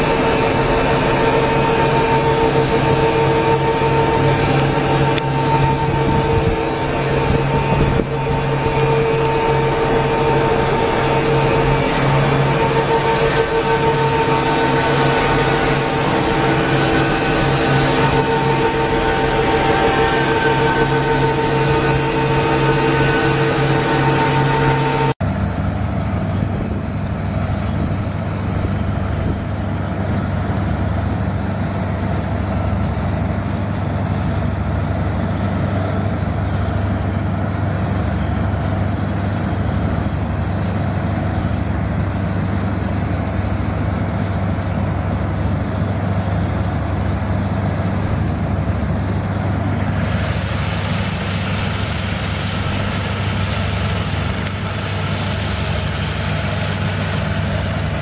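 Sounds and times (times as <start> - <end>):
combine harvester engine droning: 0.0 - 58.0
machine whine: 0.0 - 58.0.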